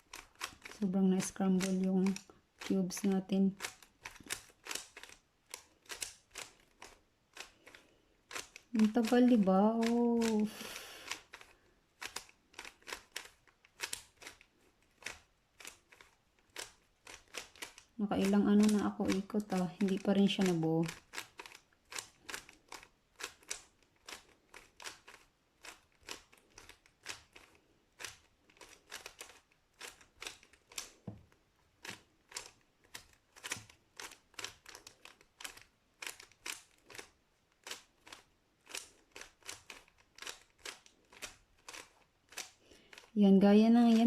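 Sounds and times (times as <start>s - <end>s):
puzzle cube layers clicking: 0.0s - 44.0s.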